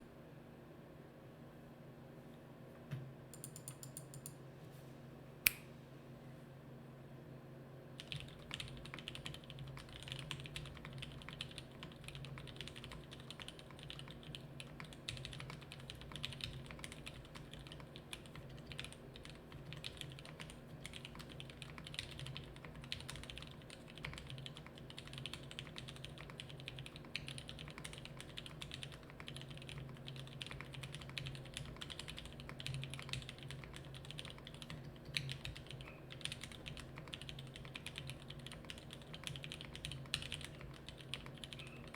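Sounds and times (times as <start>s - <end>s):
mechanical keyboard typing: 3.3s - 4.4s, 8.0s - 41.9s.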